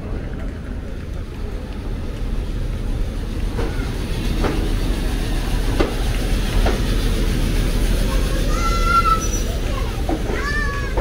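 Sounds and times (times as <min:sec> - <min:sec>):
wheel clacks over rail joints: 0:00.0 - 0:07.2, 0:09.2 - 0:11.0
train rumbling: 0:00.0 - 0:11.0.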